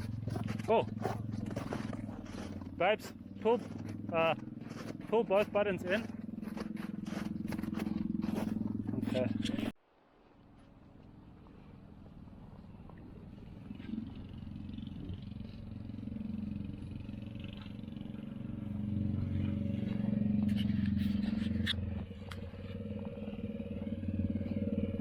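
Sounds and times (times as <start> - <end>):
small engine running: 0.0 - 9.8, 11.0 - 25.0.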